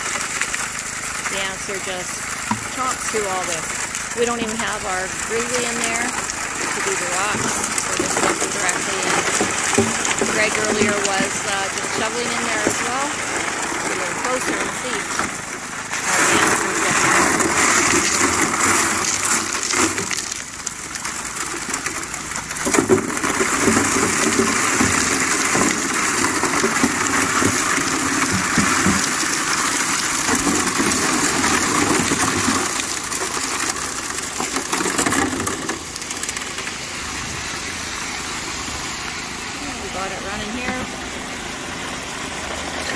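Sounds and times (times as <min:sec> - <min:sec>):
gravel and rocks tipped in: 0:00.0 - 0:39.6
water gushing onto gravel: 0:00.0 - 0:42.9
water pump engine running: 0:00.0 - 0:42.9.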